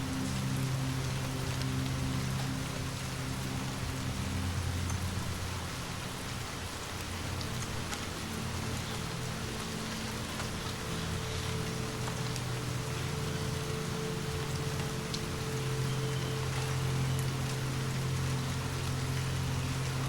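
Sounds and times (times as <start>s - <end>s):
low music drone: 0.0s - 20.0s
steady rain falling: 0.0s - 20.0s.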